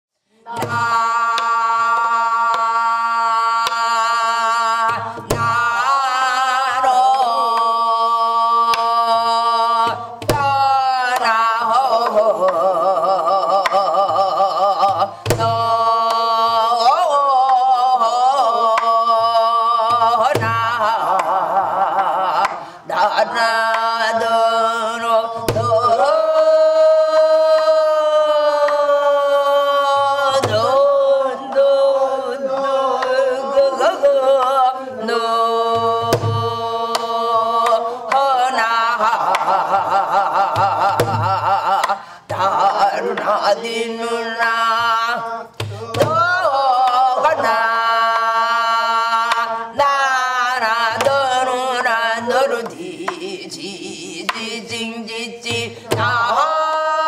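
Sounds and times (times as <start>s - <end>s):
woman singing with vibrato: 0.4s - 57.0s.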